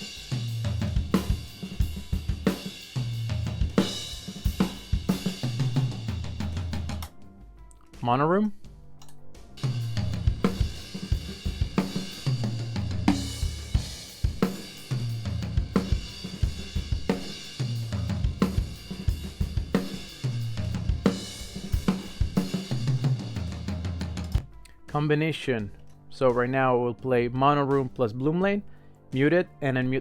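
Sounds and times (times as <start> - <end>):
drum kit playing groove: 0.0 - 25.2.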